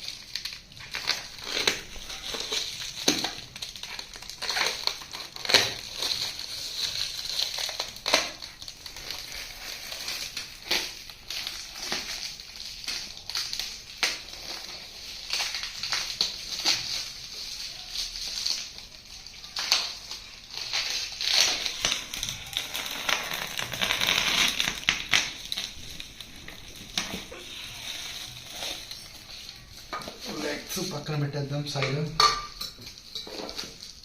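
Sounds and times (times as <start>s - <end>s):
packaging being torn open: 0.0s - 30.6s
crinkling and scraping: 0.0s - 34.0s.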